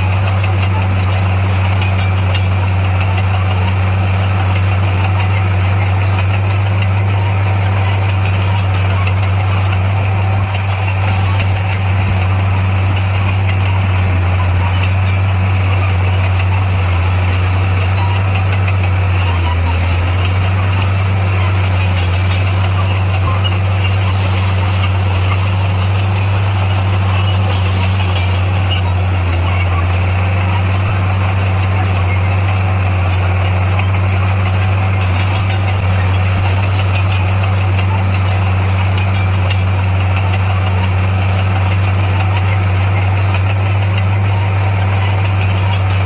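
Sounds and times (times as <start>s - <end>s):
heavy machinery diesel engine: 0.0s - 46.0s.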